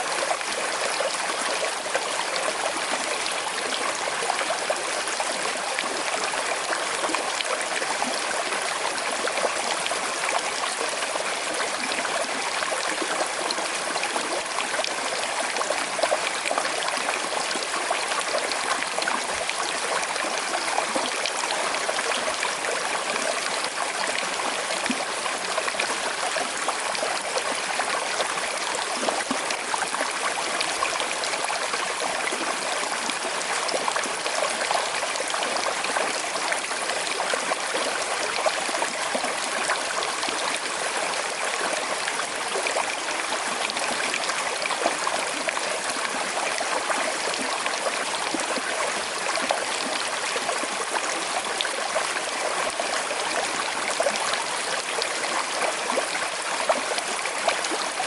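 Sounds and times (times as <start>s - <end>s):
river flowing and trickling: 0.0s - 58.0s.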